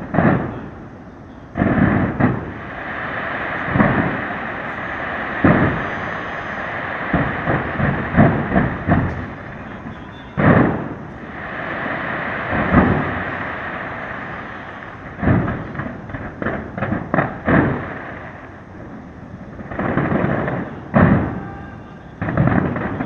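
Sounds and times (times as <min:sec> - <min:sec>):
continuous noisy rumble: 0:00.0 - 0:23.0
fireworks booming: 0:00.0 - 0:23.0.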